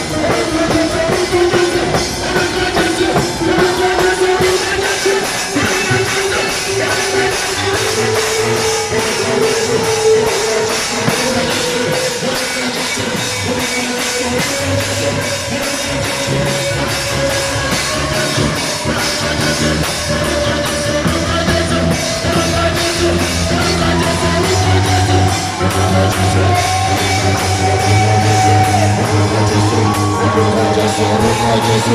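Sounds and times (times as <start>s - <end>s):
bass line: 0.0s - 31.9s
drum kit beat: 0.0s - 31.9s.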